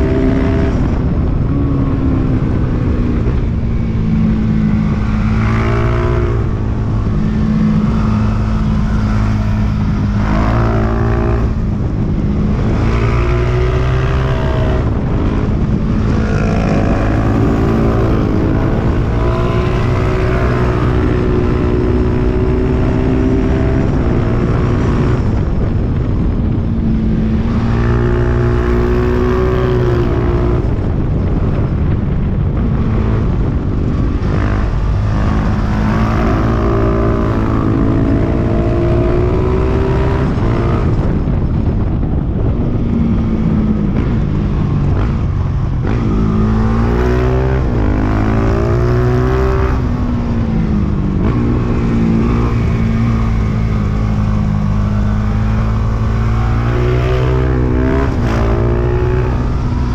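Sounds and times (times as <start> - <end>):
motorcycle engine revving: 0.0 - 59.9
wind rumble on microphone: 0.0 - 59.9.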